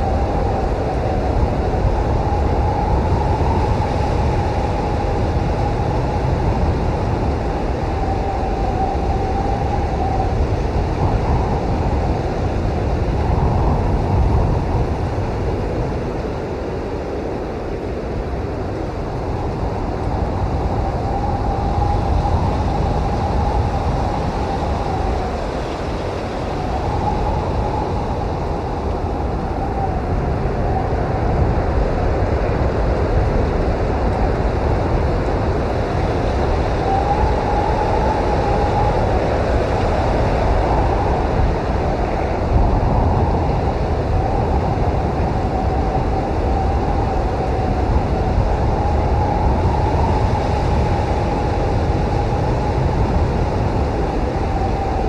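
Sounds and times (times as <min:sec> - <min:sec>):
blizzard wind rumbling: 0:00.0 - 0:55.0
wind whistling howl: 0:00.0 - 0:55.0.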